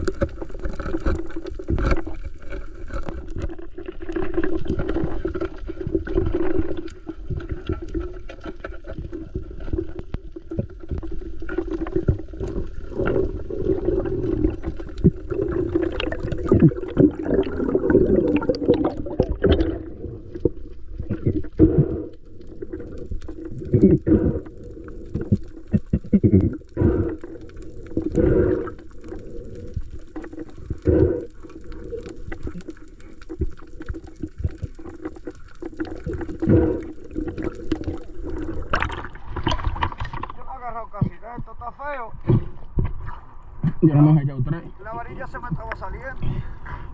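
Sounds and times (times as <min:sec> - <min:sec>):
water sloshing and gurgling: 0:00.0 - 0:46.9.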